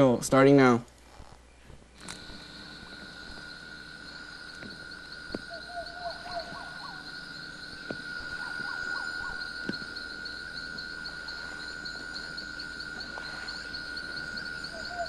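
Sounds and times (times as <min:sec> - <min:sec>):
insects and frogs trilling: 0:00.0 - 0:15.0
lower rising chirps: 0:02.1 - 0:15.0.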